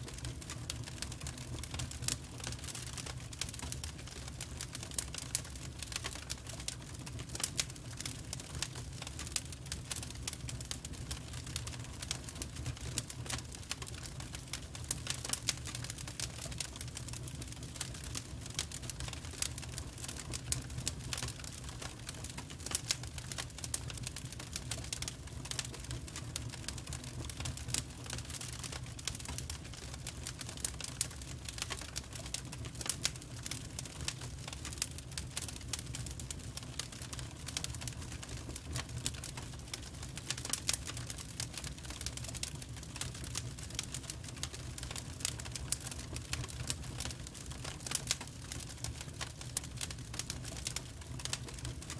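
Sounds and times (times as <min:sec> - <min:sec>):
firewood crackling and popping: 0:00.0 - 0:51.9
low fire rumble: 0:00.0 - 0:51.9.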